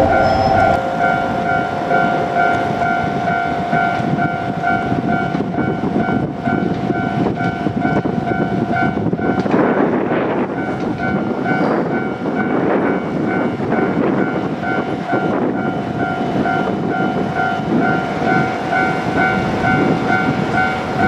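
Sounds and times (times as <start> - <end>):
diesel train running: 0.0 - 21.0
level-crossing alarm dinging: 0.0 - 21.0.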